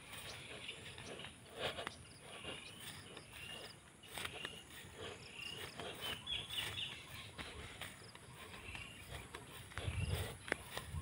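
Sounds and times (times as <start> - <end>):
footsteps through grass: 0.0 - 11.0.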